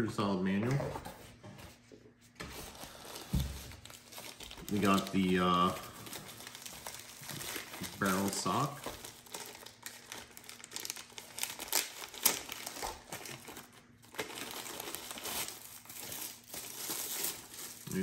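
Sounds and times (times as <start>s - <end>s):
plastic bag crinkling: 2.6s - 18.0s.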